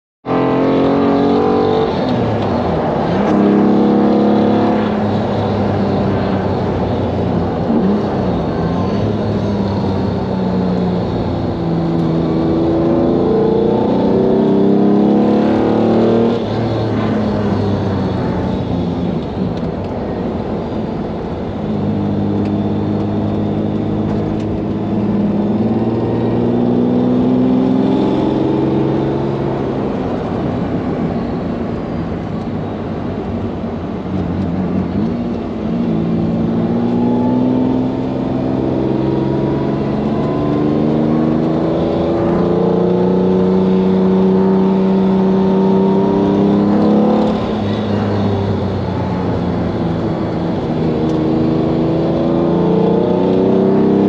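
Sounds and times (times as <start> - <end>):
car engine revving: 0.2 - 54.0.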